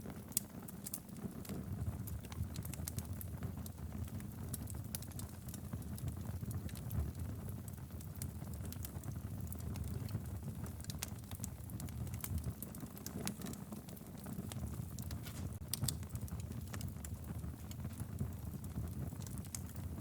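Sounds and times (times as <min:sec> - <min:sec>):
logs crackling and popping: 0:00.0 - 0:20.0
low fire rumble: 0:00.0 - 0:20.0.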